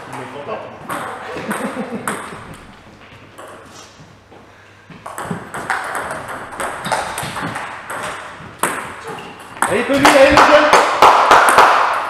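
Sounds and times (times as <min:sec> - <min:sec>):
table tennis ball hitting rackets and table: 0:00.0 - 0:04.2, 0:04.9 - 0:12.0.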